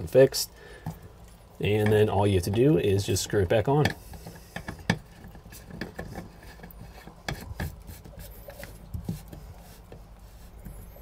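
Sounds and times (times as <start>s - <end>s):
threads rubbing and scraping: 0.9s - 11.0s.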